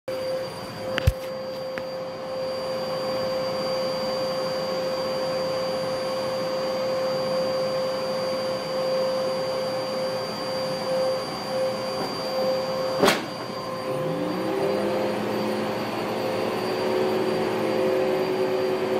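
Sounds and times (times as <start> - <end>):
vacuum cleaner running on carpet: 0.1 - 18.9.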